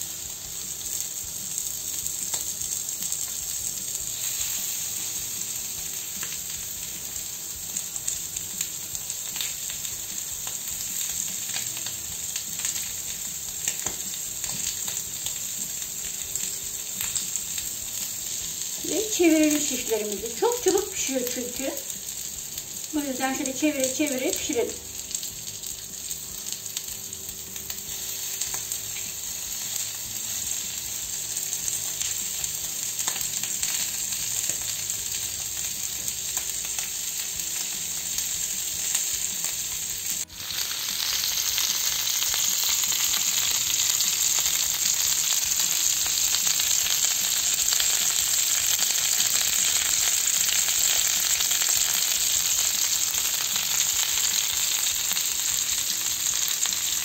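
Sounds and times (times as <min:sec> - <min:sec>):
meat sizzling on a griddle: 0:00.0 - 0:57.0.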